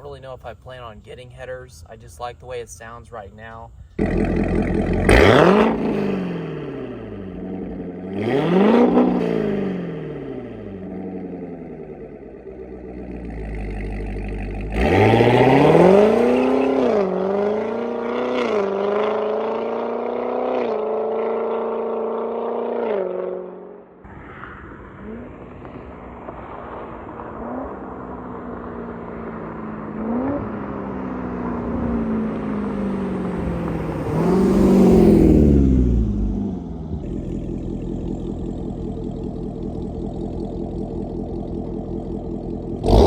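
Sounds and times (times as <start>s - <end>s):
sports car engine revving: 4.0s - 23.8s, 24.9s - 43.0s.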